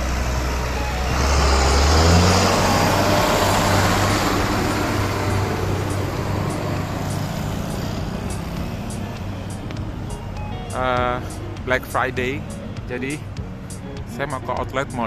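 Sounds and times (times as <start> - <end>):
heavy diesel truck passing: 0.0 - 15.0.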